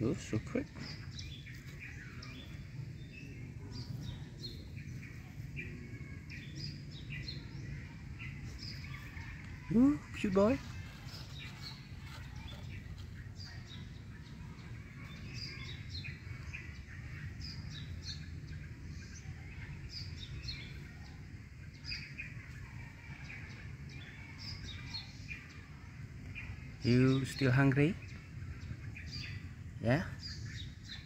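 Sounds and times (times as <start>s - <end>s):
low outdoor rumble: 0.0s - 31.0s
small birds chirping: 0.0s - 31.0s.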